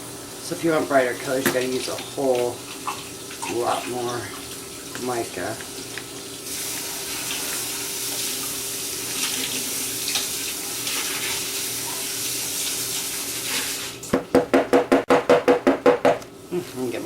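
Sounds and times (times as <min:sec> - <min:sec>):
water running from tap: 0:00.0 - 0:14.2.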